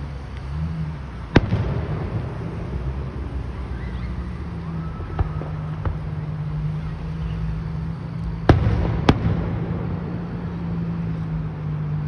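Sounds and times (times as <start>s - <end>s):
faint fireworks pops: 0.1s - 11.4s
fireworks bangs: 0.1s - 11.8s.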